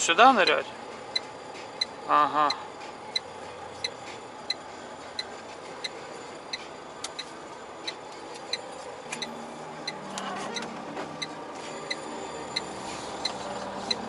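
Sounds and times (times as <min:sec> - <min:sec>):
truck engine running: 0:00.0 - 0:14.0
turn signal ticking: 0:01.1 - 0:14.0.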